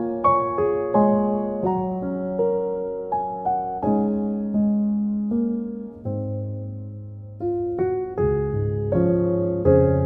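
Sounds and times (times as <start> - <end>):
slow piano-like keyboard music: 0.0 - 10.0.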